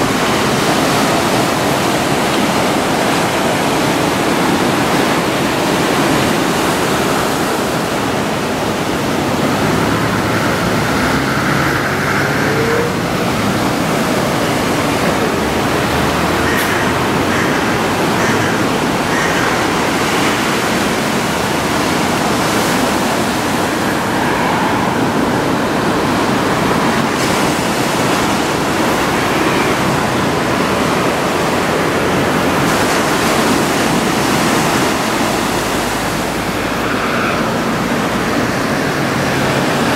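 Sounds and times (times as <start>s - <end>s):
heavy surf breaking: 0.0s - 39.9s.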